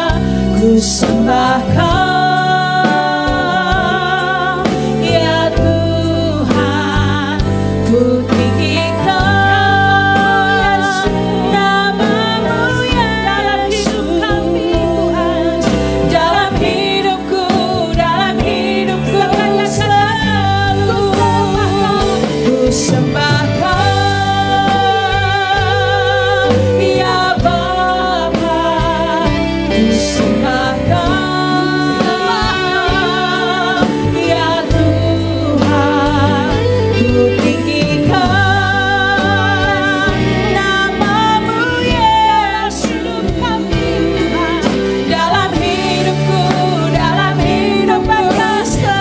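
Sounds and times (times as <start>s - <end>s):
drums: 0.0s - 49.0s
electric guitar: 0.0s - 49.0s
keyboard: 0.0s - 49.0s
women singing a worship song: 0.0s - 49.0s.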